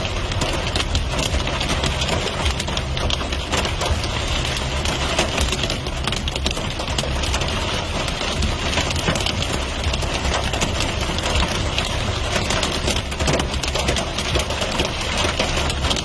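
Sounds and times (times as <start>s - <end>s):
heavy rain patter: 0.0s - 16.0s.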